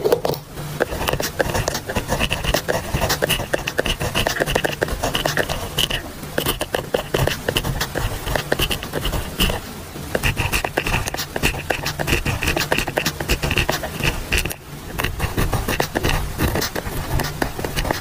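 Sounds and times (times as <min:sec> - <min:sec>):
pen scratching on paper: 0:00.8 - 0:18.0.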